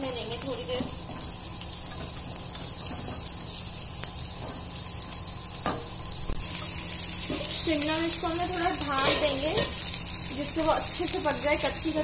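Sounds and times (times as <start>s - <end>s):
onions frying in hot oil: 0.0s - 12.0s.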